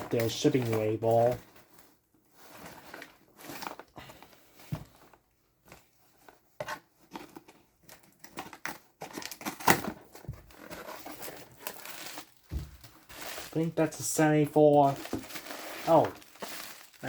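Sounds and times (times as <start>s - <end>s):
cardboard rustling and tearing: 0.0s - 5.2s, 6.2s - 17.0s.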